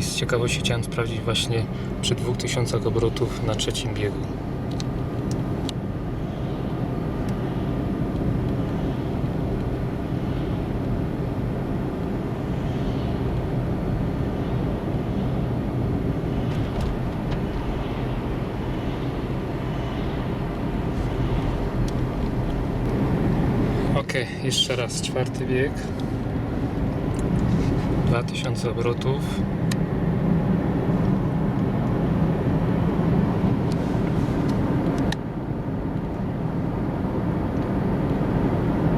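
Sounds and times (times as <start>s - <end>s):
car engine hum: 0.0s - 38.9s
road noise: 0.0s - 38.9s.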